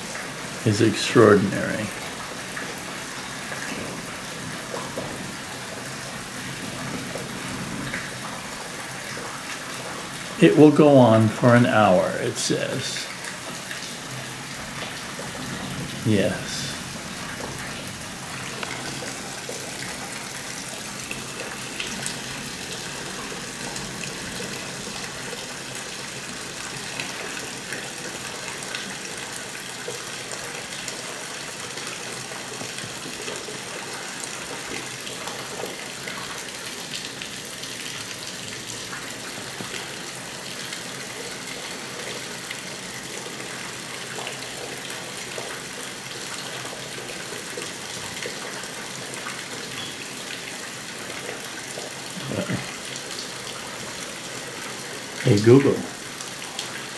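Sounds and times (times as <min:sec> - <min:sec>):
heavy rain falling: 0:00.0 - 0:56.9
water drips and splashes: 0:00.0 - 0:56.9.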